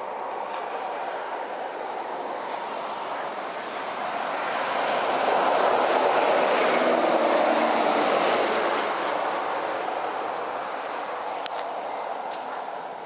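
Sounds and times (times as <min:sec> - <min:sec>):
distant vehicle passing: 0:00.0 - 0:13.0.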